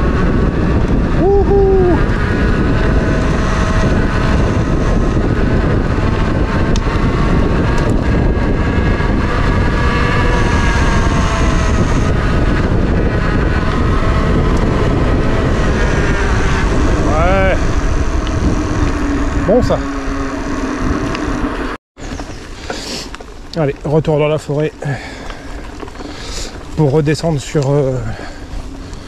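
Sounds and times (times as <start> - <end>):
bike tyres rolling on concrete: 0.0 - 29.0
wind rushing over microphone: 0.0 - 29.0.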